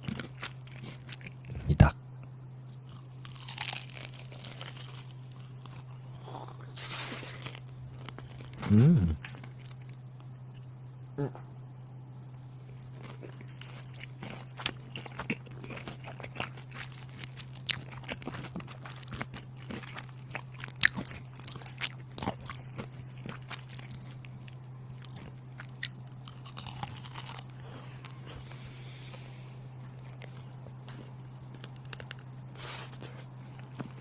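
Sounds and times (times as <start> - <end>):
crunchy food chewing: 0.0 - 11.0, 12.6 - 34.0
steady low hum: 0.0 - 34.0.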